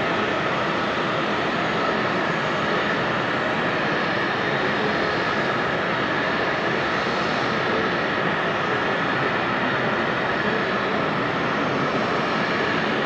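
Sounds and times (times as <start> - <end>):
jet engines running with whine: 0.0 - 13.0.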